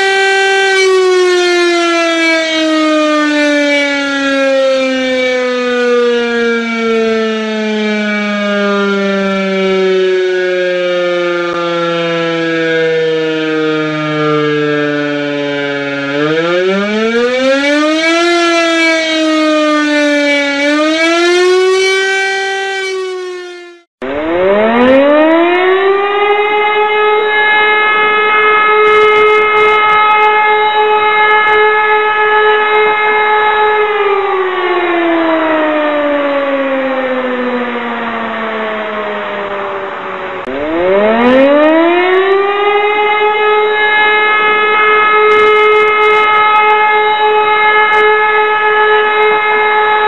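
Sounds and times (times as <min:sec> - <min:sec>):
civil defence siren wailing: 0:00.0 - 0:50.0
siren winding up to steady tone: 0:00.0 - 0:50.0.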